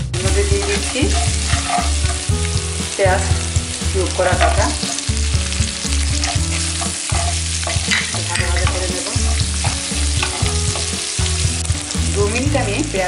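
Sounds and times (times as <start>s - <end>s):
onions sizzling in hot oil: 0.0s - 13.0s
wooden spatula scraping pan: 0.2s - 12.6s.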